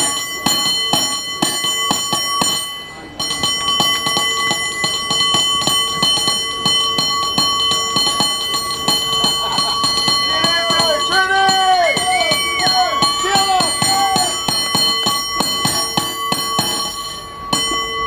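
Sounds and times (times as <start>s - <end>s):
cable car bell ringing: 0.0s - 18.0s.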